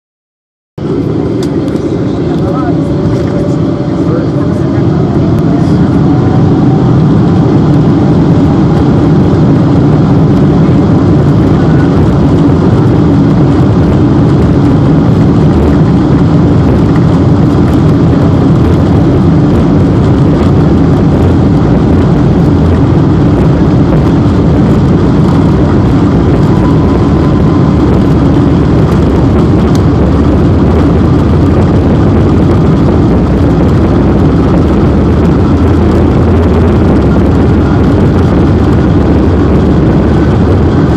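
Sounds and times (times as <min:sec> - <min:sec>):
jet engines rumbling: 0:00.8 - 0:40.9.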